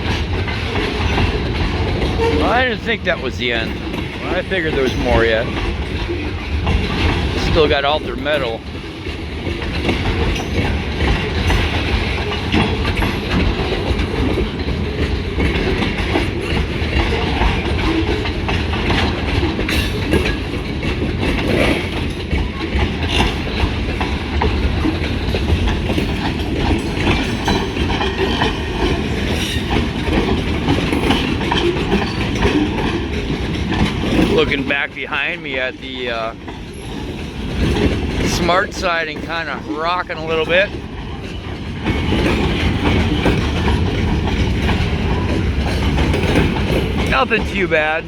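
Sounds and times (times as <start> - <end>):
freight train cars rumbling: 0.0 - 48.0
wheels clattering over rail joints: 0.0 - 48.0.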